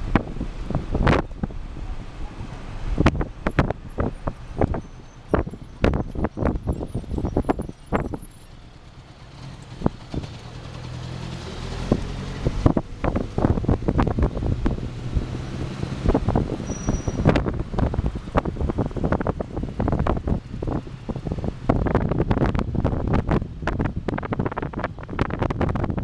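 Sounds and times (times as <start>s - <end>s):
wind buffeting microphone: 0.0s - 8.4s, 9.3s - 26.0s
low engine hum: 0.0s - 26.0s.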